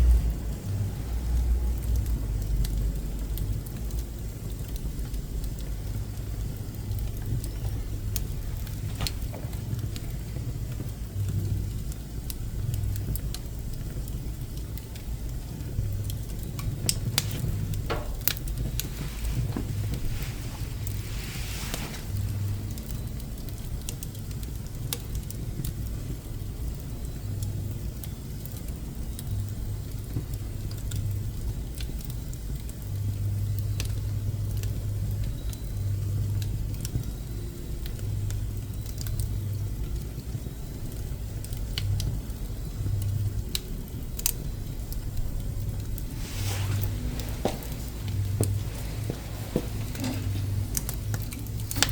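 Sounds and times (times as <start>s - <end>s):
low stove rumble: 0.0s - 51.9s
wood fire crackling and popping: 0.0s - 51.9s.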